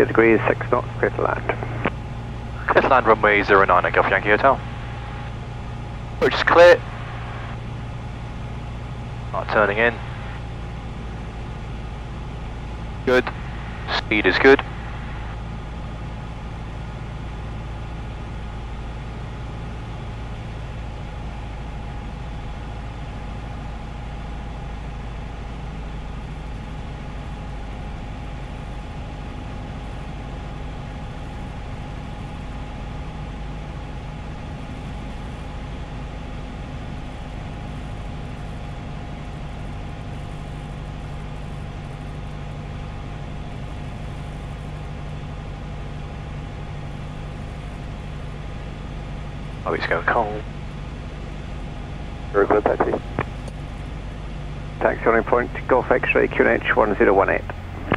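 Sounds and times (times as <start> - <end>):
aircraft engine and propeller droning: 0.0 - 57.9.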